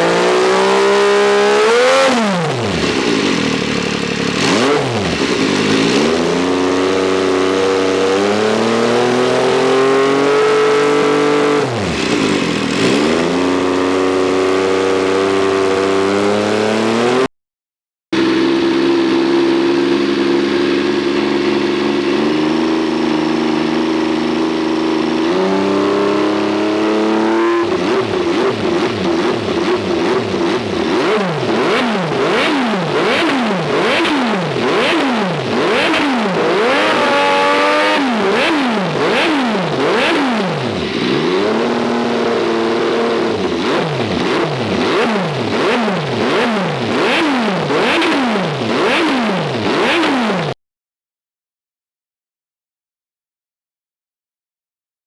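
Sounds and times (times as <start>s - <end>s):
motorcycle engine revving: 0.0s - 17.3s, 18.2s - 50.6s.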